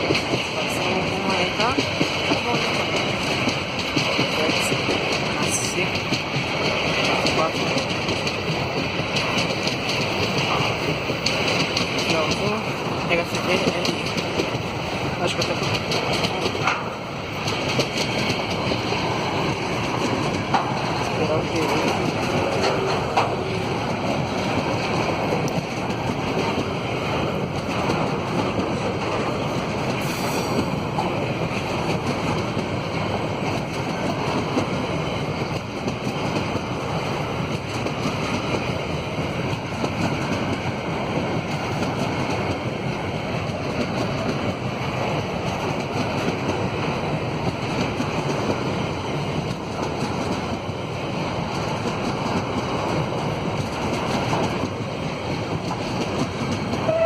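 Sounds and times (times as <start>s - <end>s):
train wagons rolling past: 0.0s - 57.0s.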